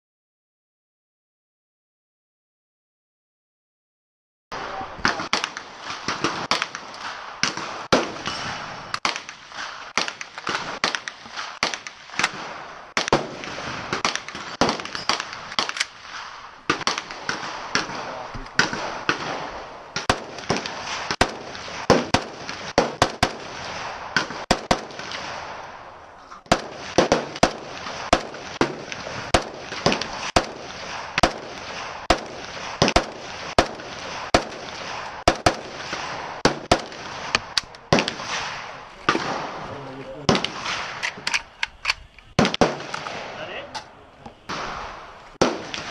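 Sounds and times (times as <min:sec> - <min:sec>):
gunshots: 0:04.5 - 0:43.9, 0:44.5 - 0:45.9.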